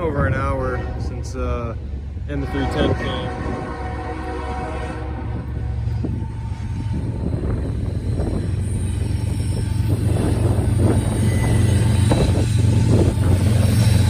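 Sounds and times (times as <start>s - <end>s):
diesel locomotive rumble: 0.0s - 14.0s.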